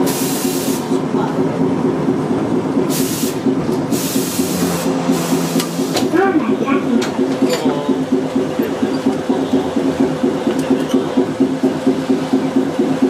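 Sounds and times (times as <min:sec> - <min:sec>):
streetcar motor hum and rumble: 0:00.0 - 0:13.0.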